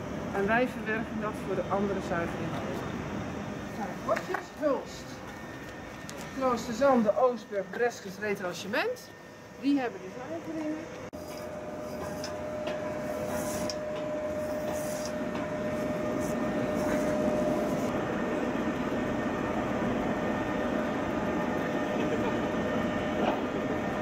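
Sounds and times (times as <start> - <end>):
thin steady whine: 0.0 - 24.0.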